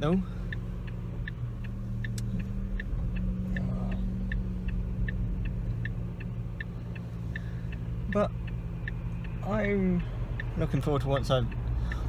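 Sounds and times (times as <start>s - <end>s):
engine and road hum: 0.0s - 12.0s
turn signal ticking: 0.0s - 12.0s.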